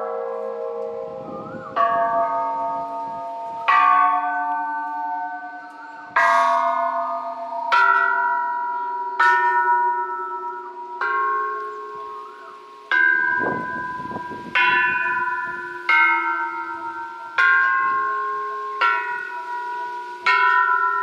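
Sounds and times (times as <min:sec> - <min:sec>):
temple bells struck by hand: 0:00.0 - 0:21.0.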